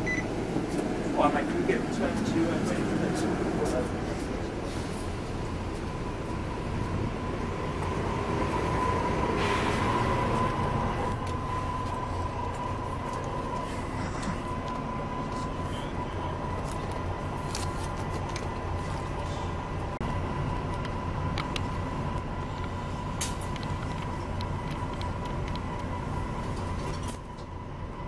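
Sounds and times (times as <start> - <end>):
engine and road rumble: 0.0 - 28.0.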